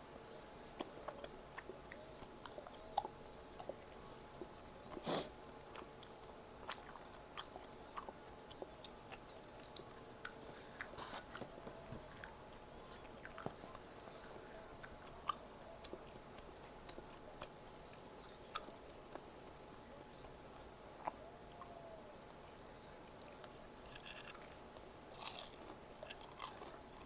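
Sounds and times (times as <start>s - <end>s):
chewing food: 0.7s - 21.9s, 22.5s - 27.0s.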